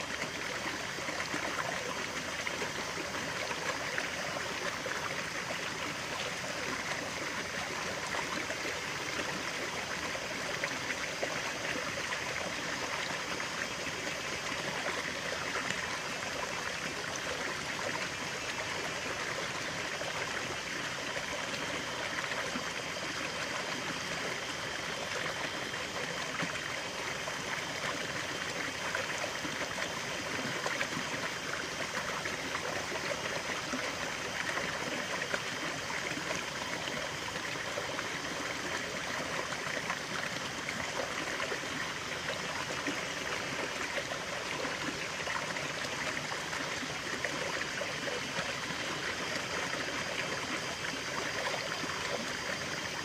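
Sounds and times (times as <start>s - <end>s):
stream trickling and babbling: 0.0s - 53.0s.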